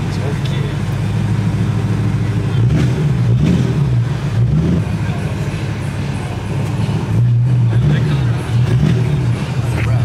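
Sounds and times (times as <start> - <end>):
car engine humming and revving: 0.0 - 10.0.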